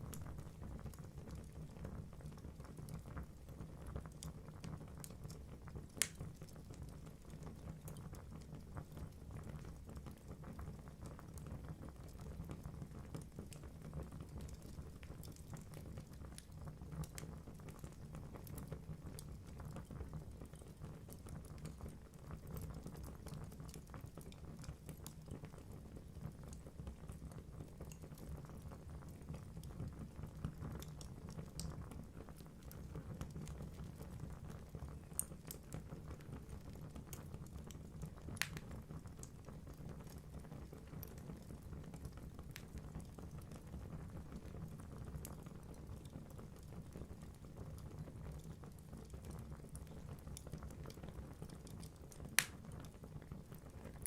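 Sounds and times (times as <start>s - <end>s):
fire crackling and popping: 0.0s - 54.0s
wood fire burning: 0.0s - 54.0s.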